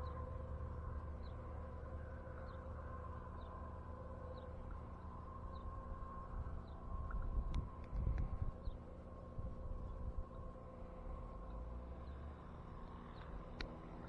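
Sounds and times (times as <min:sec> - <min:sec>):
low rumble: 0:00.0 - 0:12.2
faint hum: 0:00.0 - 0:14.0.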